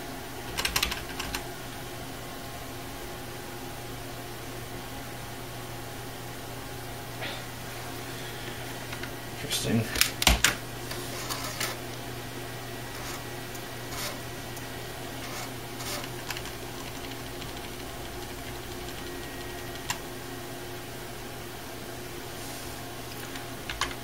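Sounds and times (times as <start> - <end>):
desktop computer hum: 0.0 - 24.0.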